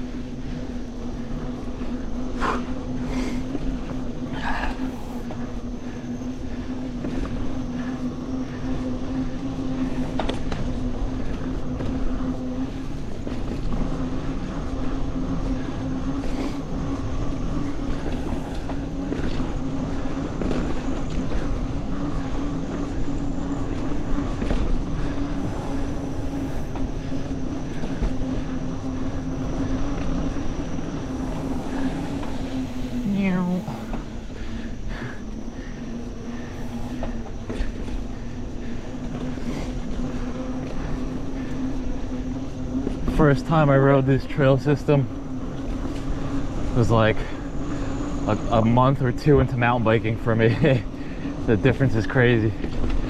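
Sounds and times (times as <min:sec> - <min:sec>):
bike tyres humming on dirt: 0:00.0 - 0:53.0.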